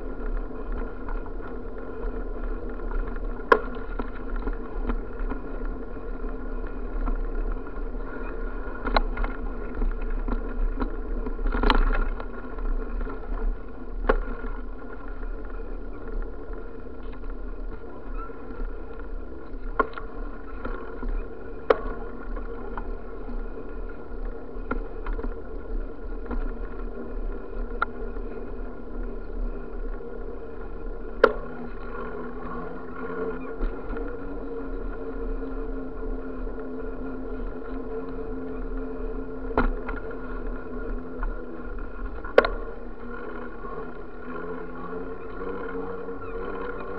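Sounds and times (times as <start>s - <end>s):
bicycle rolling on concrete: 0.0s - 46.9s.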